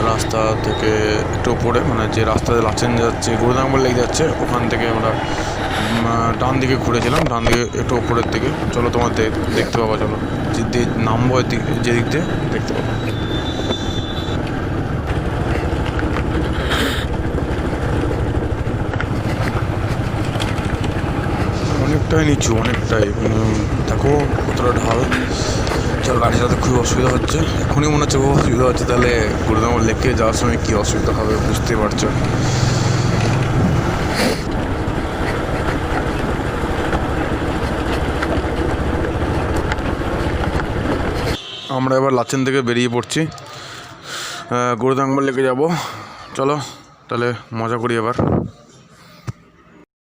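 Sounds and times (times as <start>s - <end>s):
motorcycle engine pulsing: 0.0s - 41.7s.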